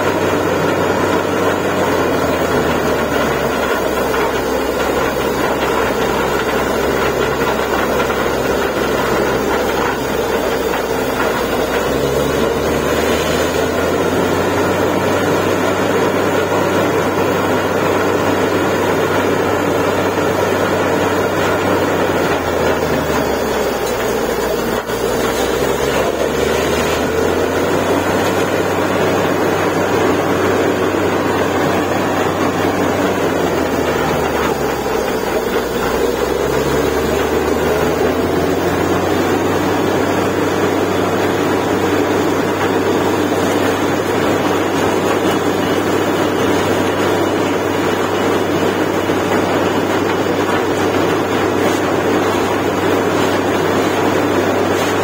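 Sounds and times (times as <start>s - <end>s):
drilling rig engine drone: 0.0s - 55.0s.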